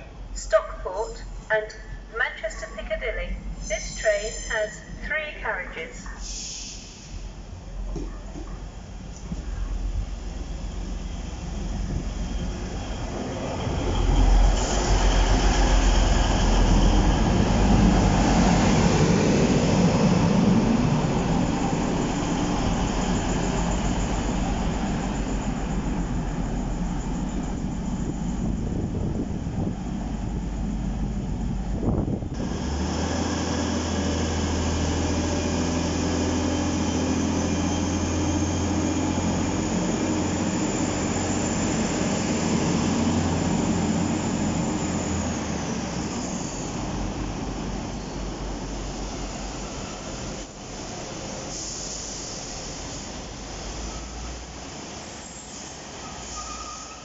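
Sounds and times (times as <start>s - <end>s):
train diesel engine rumble: 0.0s - 57.0s.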